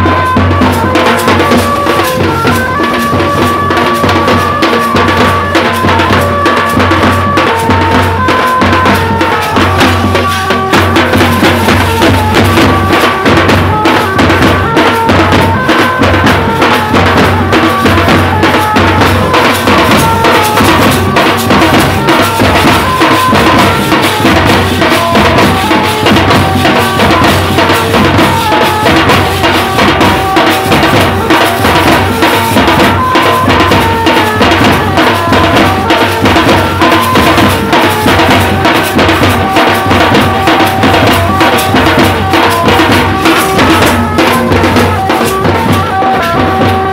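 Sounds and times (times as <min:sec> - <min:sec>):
band melody: 0:00.0 - 0:46.9
drums in fast rhythm: 0:00.0 - 0:46.9.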